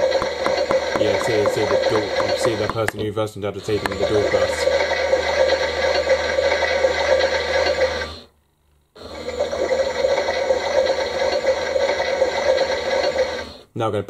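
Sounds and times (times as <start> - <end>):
toy motor whirring and rattling: 0.0 - 3.0, 3.6 - 8.3, 9.1 - 13.6.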